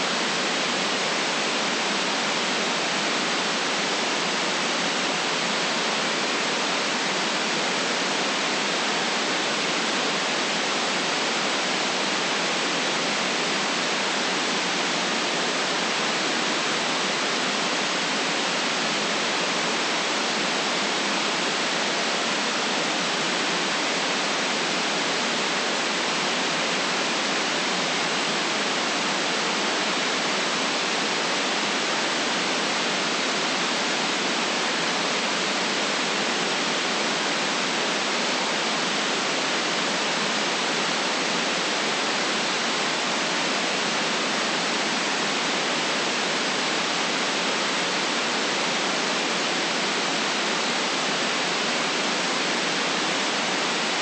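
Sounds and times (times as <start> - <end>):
electronic white noise hiss: 0.0 - 54.0.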